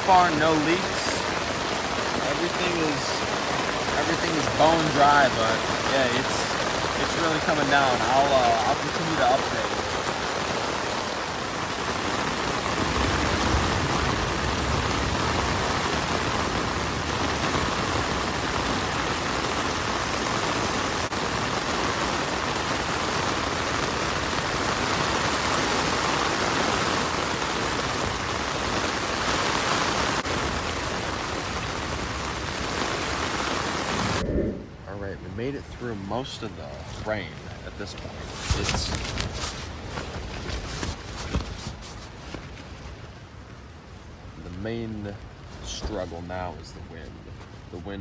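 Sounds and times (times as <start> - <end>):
heavy rain on a tent: 0.0 - 34.2, 35.3 - 48.0.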